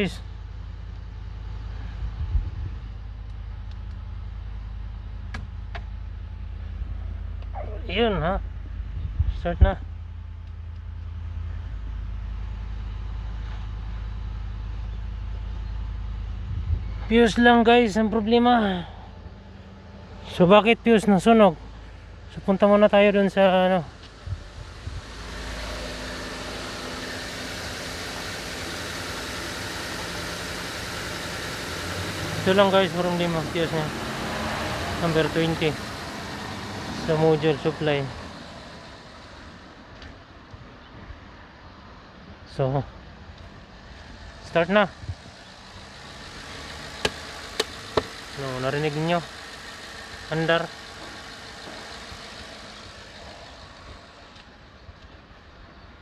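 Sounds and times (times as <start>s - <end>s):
pickup engine idling: 0.0s - 56.0s.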